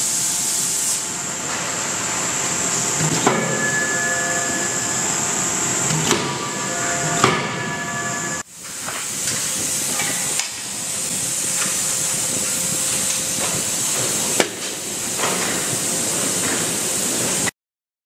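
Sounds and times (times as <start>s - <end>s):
machinery hiss: 0.0s - 7.8s, 8.4s - 17.5s.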